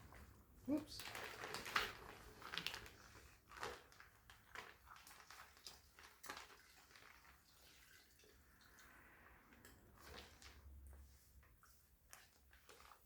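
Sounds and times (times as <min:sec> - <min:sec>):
wet laundry rustling and squishing: 0:00.0 - 0:13.0.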